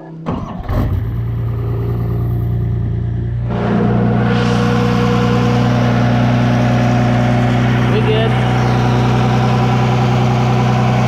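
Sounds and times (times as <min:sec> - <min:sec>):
diesel engine running: 0:00.3 - 0:11.0.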